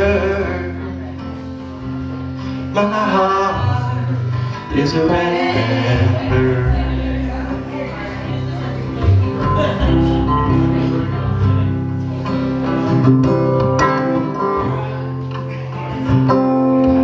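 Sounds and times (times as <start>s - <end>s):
acoustic guitar strummed and picked: 0.0s - 17.0s
upright double bass: 0.0s - 17.0s.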